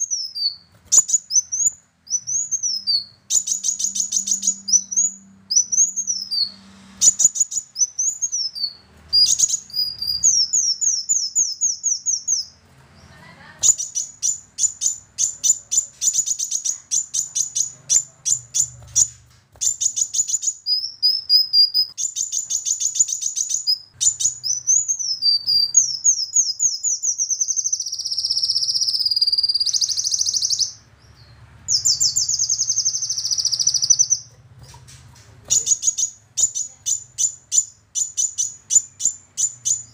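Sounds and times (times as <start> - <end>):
sunbird singing: 0.0 - 12.6, 13.6 - 39.9.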